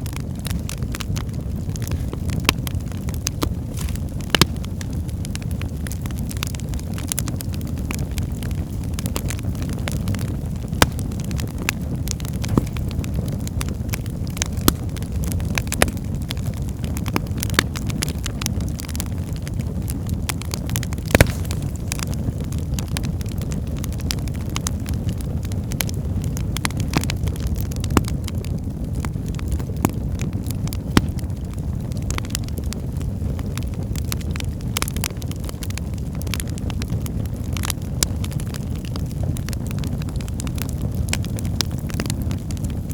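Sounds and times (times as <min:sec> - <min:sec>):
wood fire rumbling and crackling: 0:00.0 - 0:42.9.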